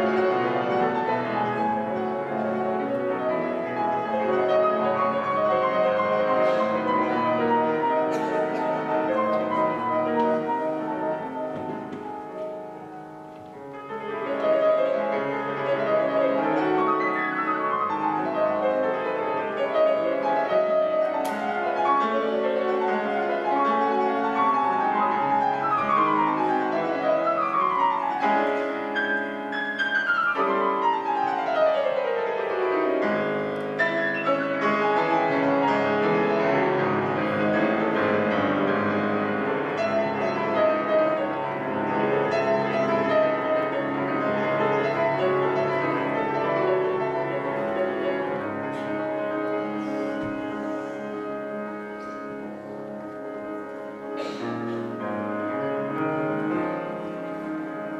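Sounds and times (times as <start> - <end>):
grand piano classical piece: 0.0 - 57.9.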